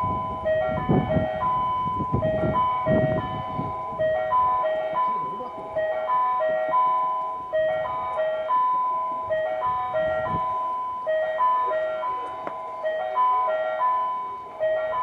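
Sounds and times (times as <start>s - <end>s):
electronic chime melody: 0.0s - 15.0s.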